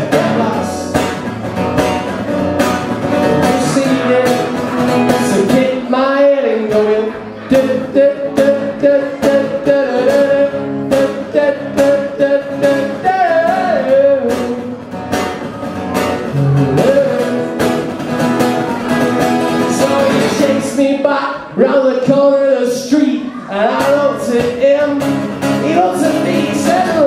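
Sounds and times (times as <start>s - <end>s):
man singing: 0.0s - 1.3s, 3.1s - 27.0s
strummed acoustic guitar: 0.0s - 27.0s.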